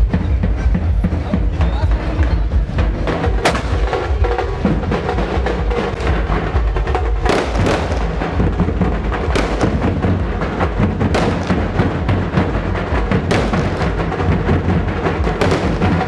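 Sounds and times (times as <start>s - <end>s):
drumming and percussion music: 0.0s - 16.0s.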